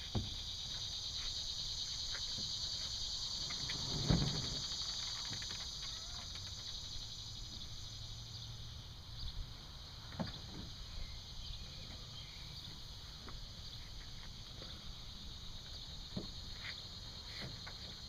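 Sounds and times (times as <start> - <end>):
steady high-pitched hiss: 0.0 - 18.0.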